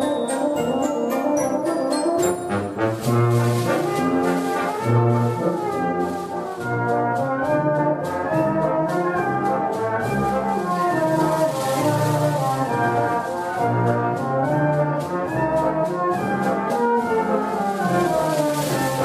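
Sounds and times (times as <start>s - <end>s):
brass band playing chords: 0.0s - 19.0s.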